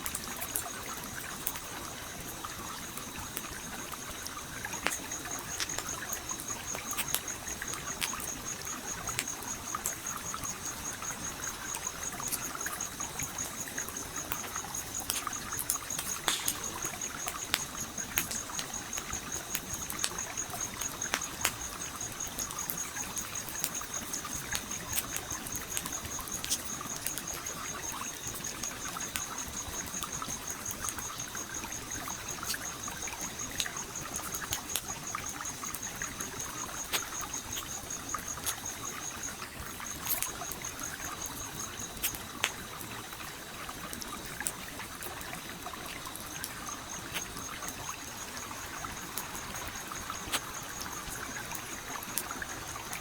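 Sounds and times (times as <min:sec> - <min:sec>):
campfire crackling and popping: 0:00.0 - 0:53.0
stream flowing: 0:00.2 - 0:53.0.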